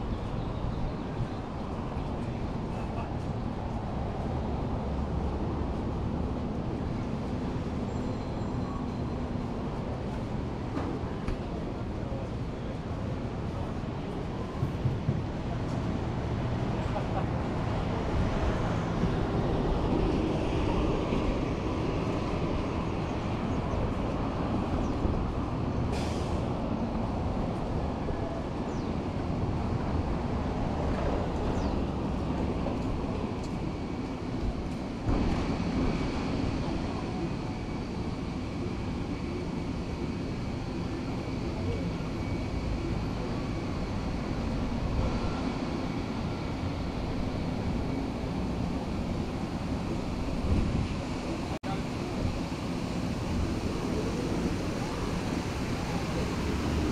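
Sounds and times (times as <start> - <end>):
road traffic rumble: 0.0 - 56.9.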